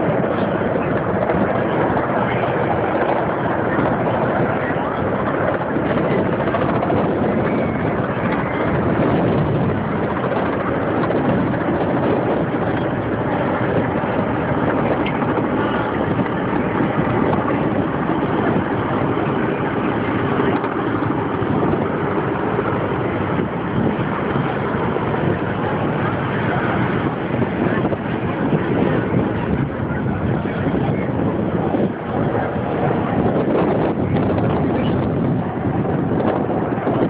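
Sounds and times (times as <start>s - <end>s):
aircraft engines droning: 0.0s - 37.0s.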